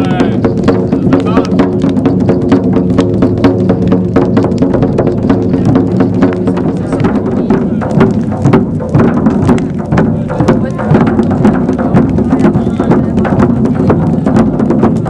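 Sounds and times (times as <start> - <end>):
frame drums beaten fast: 0.0 - 15.0.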